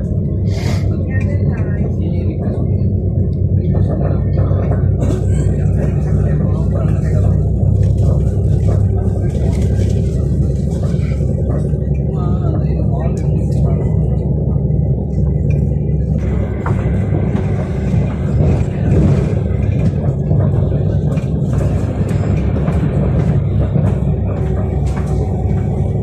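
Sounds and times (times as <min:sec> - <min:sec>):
electric train rumbling: 0:00.0 - 0:26.0
wheels and carriage clicking and rattling: 0:01.1 - 0:26.0.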